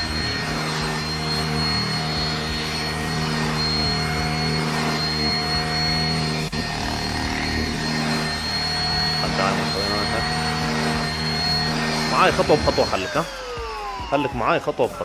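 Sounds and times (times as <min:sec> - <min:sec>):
handheld vacuum cleaner running: 0:00.0 - 0:15.0.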